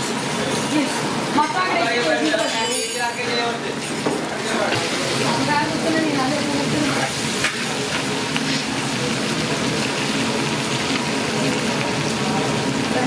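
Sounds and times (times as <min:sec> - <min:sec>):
mango slices sizzling: 0:00.0 - 0:13.0.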